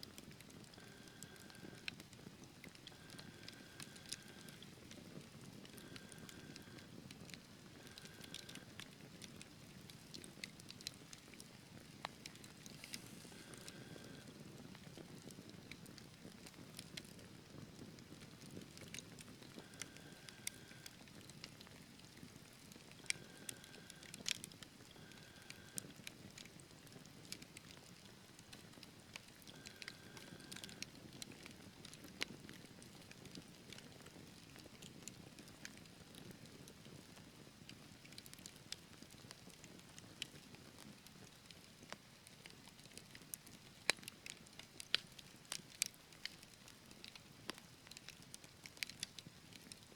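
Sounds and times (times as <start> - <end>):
fire crackles and pops: 0.0 - 49.9
wood fire burning: 0.0 - 49.9.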